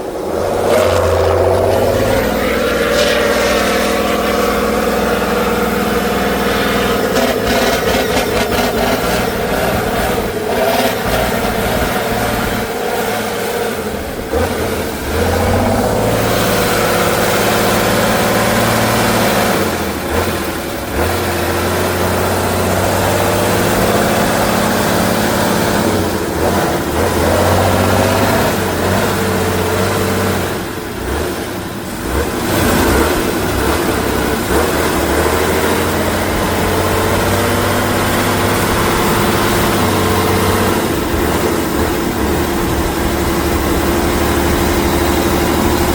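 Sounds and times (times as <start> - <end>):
truck engine working hard: 0.0 - 45.9.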